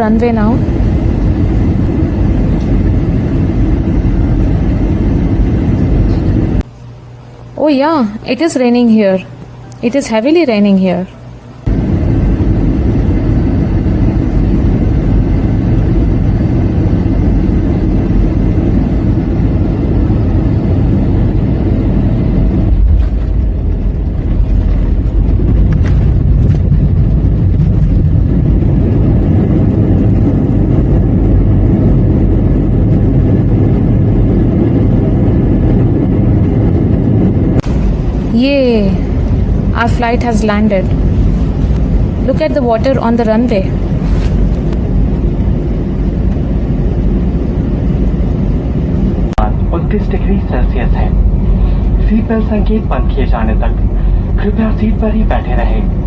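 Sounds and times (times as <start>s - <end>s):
airliner engine and airflow noise: 0.0s - 56.0s.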